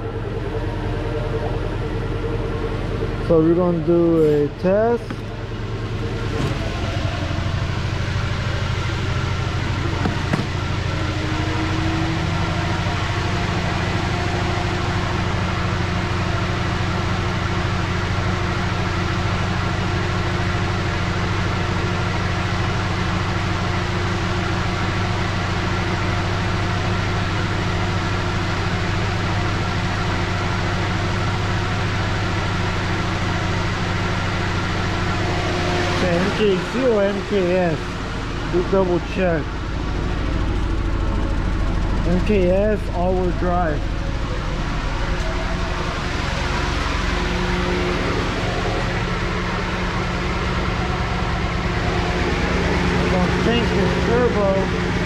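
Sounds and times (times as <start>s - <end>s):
car engine idling and misfiring: 0.0s - 55.0s.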